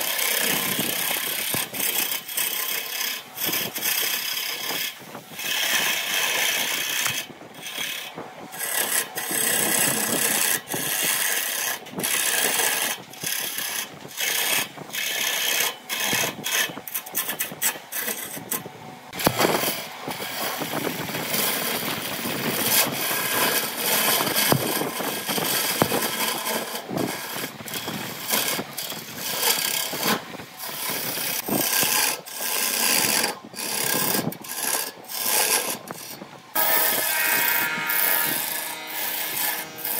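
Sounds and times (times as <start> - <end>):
lathe tool cutting wood: 0.0 - 39.9.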